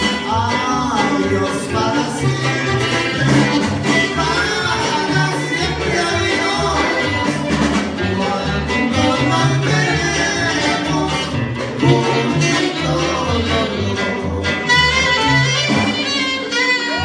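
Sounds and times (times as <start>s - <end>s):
band playing dance music: 0.0s - 17.0s.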